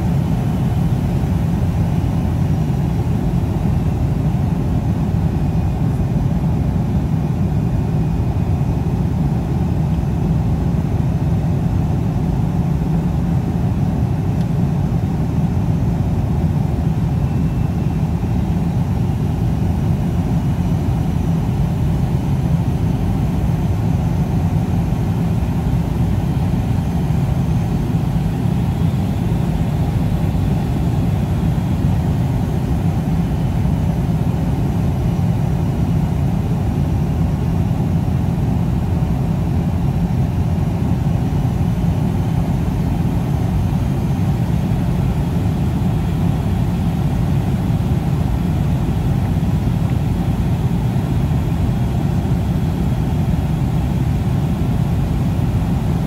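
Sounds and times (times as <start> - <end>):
airflow and jet engine rumble: 0.0 - 56.0
faint high whine: 0.0 - 56.0.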